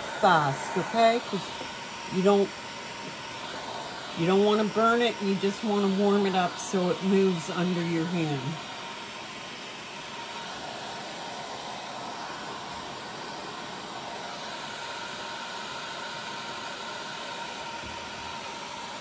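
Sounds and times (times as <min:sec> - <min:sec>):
faint steady whine: 0:00.0 - 0:19.0
heat gun blowing: 0:00.0 - 0:19.0.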